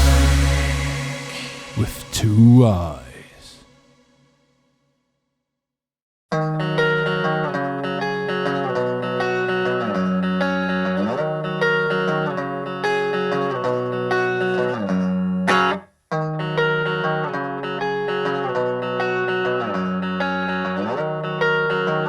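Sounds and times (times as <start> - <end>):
electric guitar riff: 0.0 - 3.6, 6.4 - 22.0.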